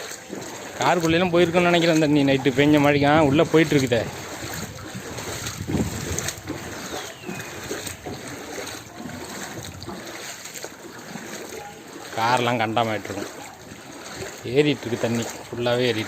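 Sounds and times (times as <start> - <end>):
floodwater rushing: 0.0 - 16.0
water splashes: 0.0 - 16.0.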